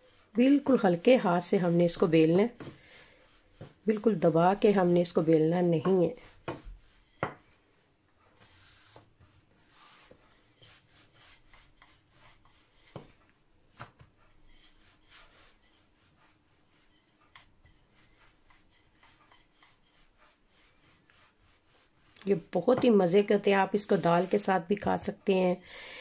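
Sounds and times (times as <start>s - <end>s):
rolling pin rubbing over dough: 0.0s - 25.6s.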